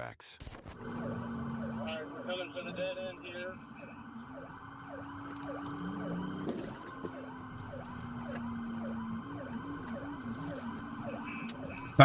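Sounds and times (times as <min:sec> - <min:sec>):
police sirens yelping: 0:00.7 - 0:12.0.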